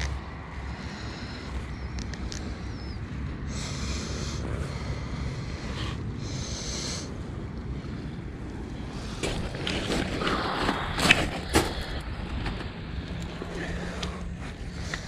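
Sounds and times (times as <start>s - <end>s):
wind and surf rumble: 0.0s - 15.0s.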